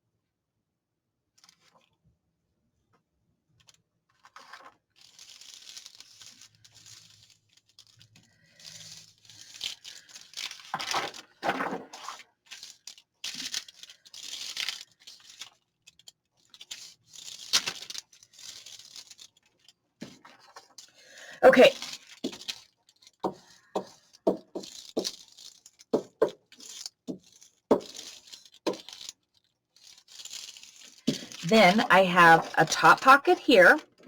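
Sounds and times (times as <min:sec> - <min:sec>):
paper rustling and crinkling: 0:01.4 - 0:02.0, 0:03.6 - 0:32.8.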